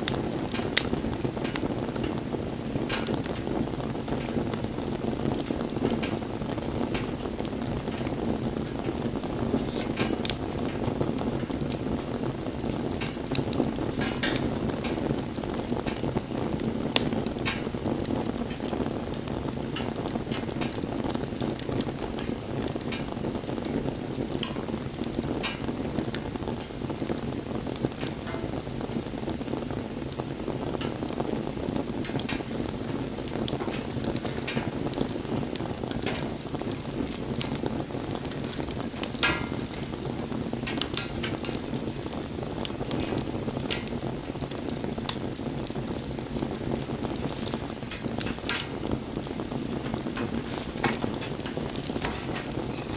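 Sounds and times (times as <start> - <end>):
burning wood crackling: 0.0 - 52.9
low rush of flames: 0.0 - 52.9.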